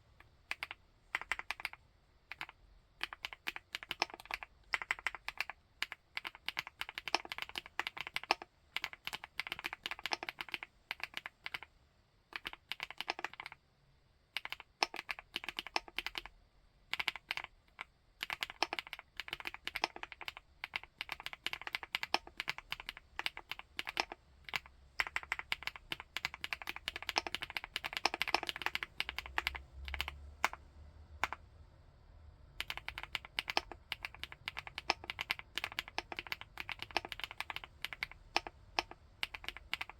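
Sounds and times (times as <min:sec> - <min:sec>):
typing on mechanical keyboard: 0:00.2 - 0:11.7, 0:12.3 - 0:13.6, 0:14.3 - 0:16.3, 0:16.9 - 0:30.6, 0:32.6 - 0:39.9.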